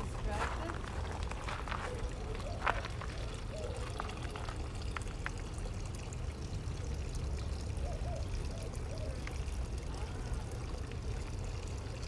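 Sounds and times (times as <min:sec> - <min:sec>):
water trickling among stones: 0:00.0 - 0:12.0.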